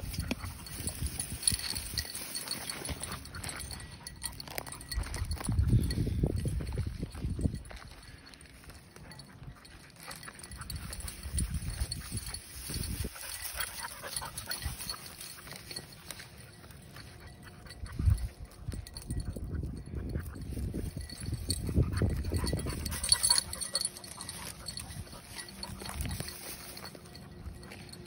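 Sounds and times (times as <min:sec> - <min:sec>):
footsteps crunching through dry grass: 0:00.0 - 0:28.0.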